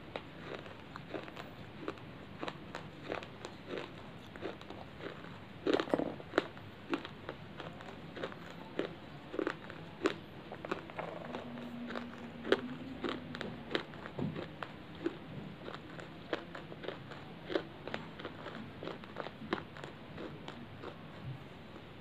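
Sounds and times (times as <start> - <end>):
chips being chewed with crunches: 0.0 - 22.0.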